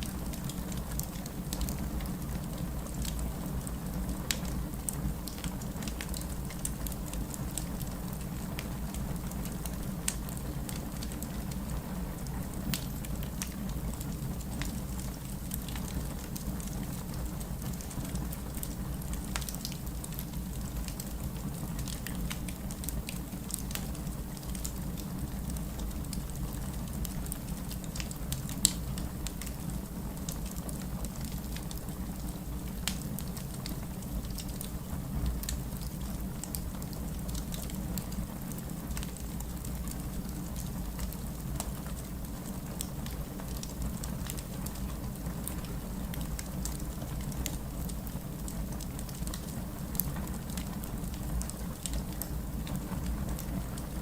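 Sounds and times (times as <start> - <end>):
fireplace crackling and popping: 0.0 - 54.0
steady rain: 0.0 - 54.0.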